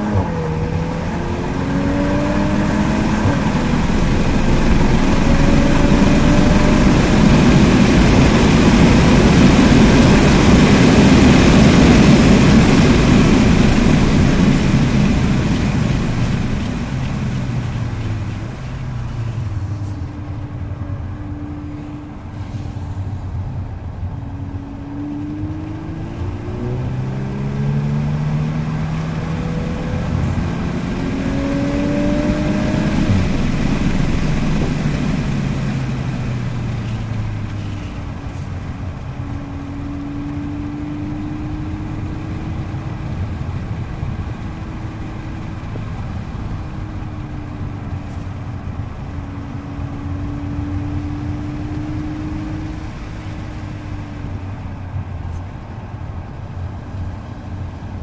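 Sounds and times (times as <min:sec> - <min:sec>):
car engine revving: 0:00.0 - 0:22.4, 0:24.1 - 0:55.4
road noise: 0:00.0 - 0:58.0.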